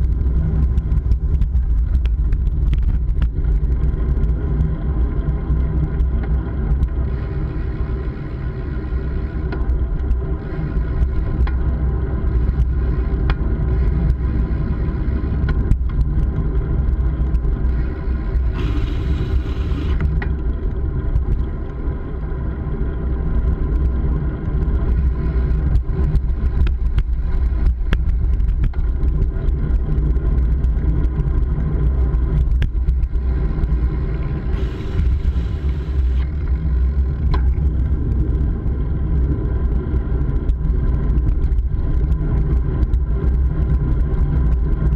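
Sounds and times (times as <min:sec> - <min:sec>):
vehicle engine and road rumble: 0:00.0 - 0:44.9.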